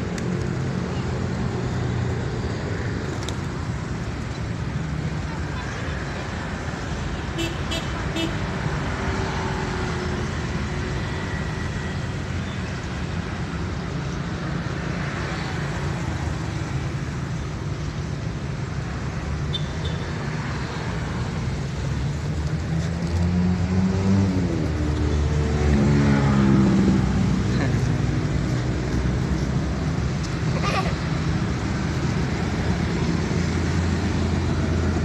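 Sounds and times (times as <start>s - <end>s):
road traffic: 0.0s - 35.0s.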